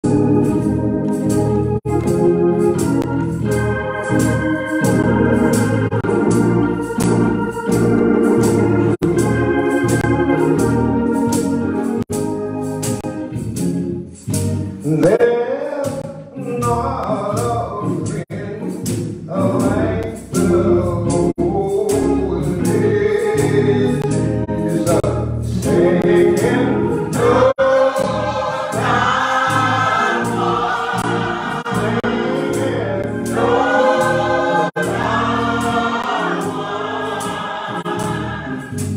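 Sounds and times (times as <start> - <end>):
congregation singing a hymn: 0.0 - 13.3, 18.8 - 38.9
organ playing gospel chords: 0.0 - 38.9.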